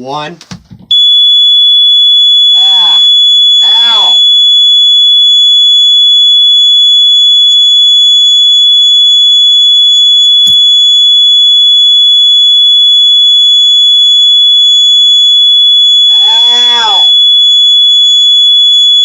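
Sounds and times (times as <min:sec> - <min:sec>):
fire alarm buzzer tone: 0:00.9 - 0:19.0.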